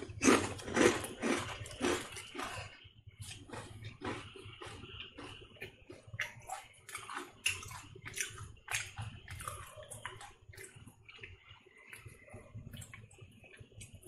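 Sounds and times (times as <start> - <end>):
crunching potato chips: 0.0 - 14.0.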